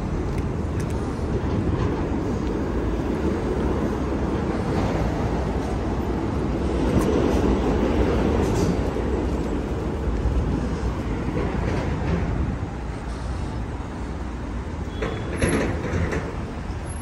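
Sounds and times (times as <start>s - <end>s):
large vehicle rumbling: 0.0s - 17.0s.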